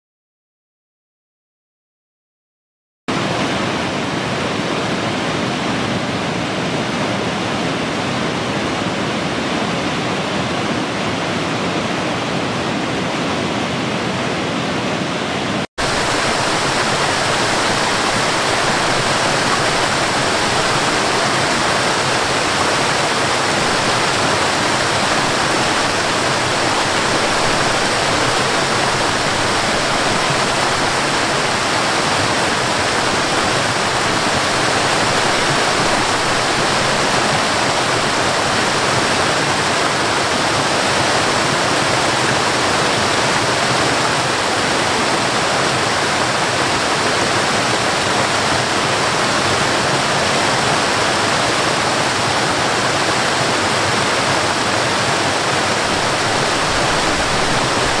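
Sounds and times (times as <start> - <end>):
waterfall rushing over rocks: 3.1 - 58.0.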